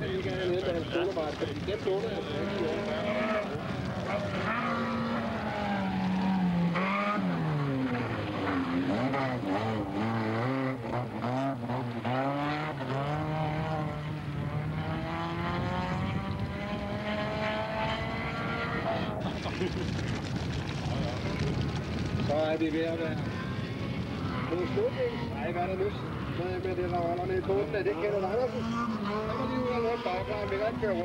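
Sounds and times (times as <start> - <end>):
rally car engine revving: 0.1 - 21.9, 24.0 - 31.0.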